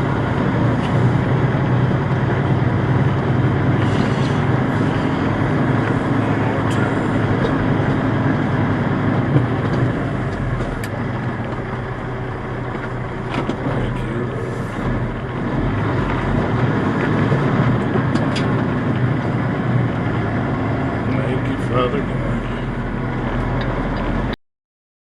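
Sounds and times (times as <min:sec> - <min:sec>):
diesel truck engines rumbling: 0:00.0 - 0:24.4.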